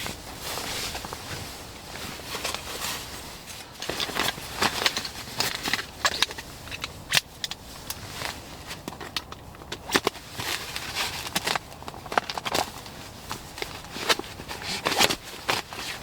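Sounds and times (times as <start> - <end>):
camping gear rustling in snow: 0.0 - 16.0.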